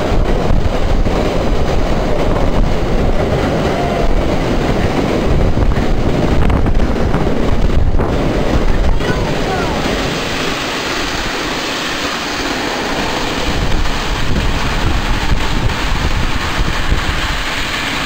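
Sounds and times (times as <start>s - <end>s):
freight train rolling past: 0.0s - 18.0s
wind buffeting the microphone: 0.0s - 18.0s.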